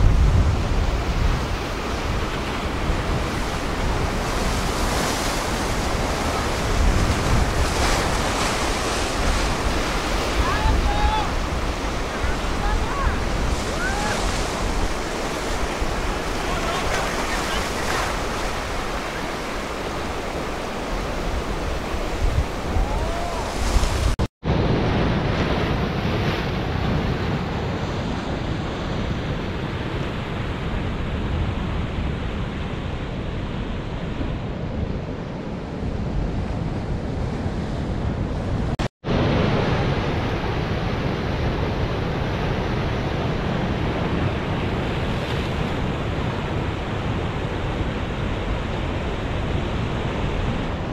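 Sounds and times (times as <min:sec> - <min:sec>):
ocean surf breaking: 0:00.0 - 0:50.9
wind blowing over microphone: 0:00.0 - 0:50.9.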